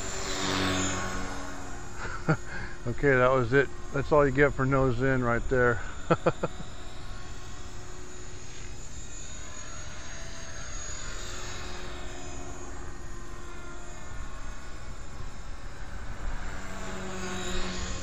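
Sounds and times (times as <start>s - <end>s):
rc helicopter rotor whining: 0.0s - 18.0s.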